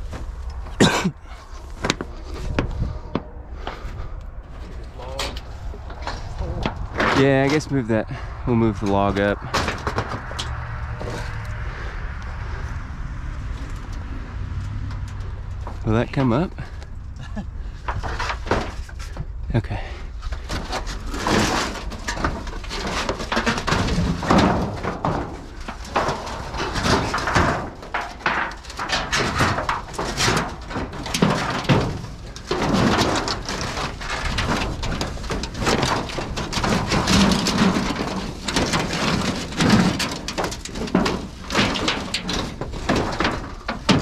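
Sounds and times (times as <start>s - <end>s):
scrapes and knocks: 0.0s - 44.0s.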